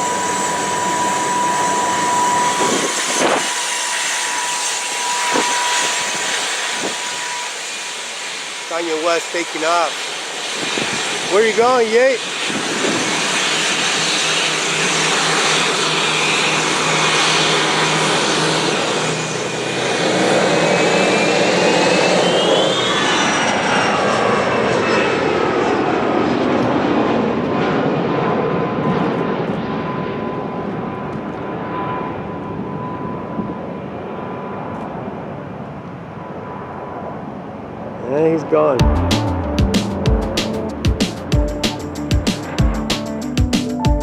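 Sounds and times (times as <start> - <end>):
jet engines roaring: 0.0 - 43.8
jet whine rising in pitch: 0.0 - 44.0.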